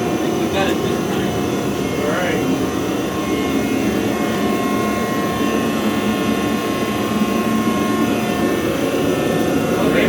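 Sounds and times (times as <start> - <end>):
faint steady whine: 0.0 - 10.0
gas forge burner rushing: 0.0 - 10.0.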